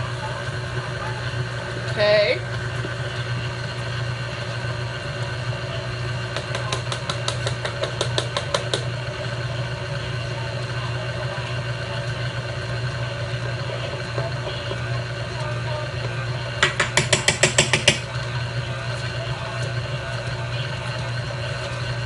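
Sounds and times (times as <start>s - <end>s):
beater churning batter: 0.0s - 22.0s
stand mixer motor running: 0.0s - 22.0s.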